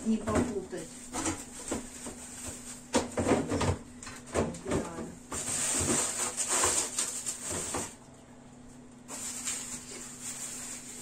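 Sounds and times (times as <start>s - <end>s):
plastic packaging rustling: 0.1s - 4.3s, 5.3s - 8.1s, 9.0s - 11.0s.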